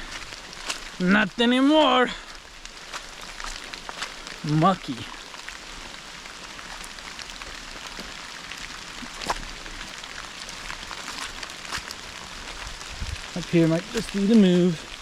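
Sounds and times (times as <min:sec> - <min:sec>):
louder raindrops: 0:00.0 - 0:15.0
steady rain falling: 0:00.0 - 0:15.0.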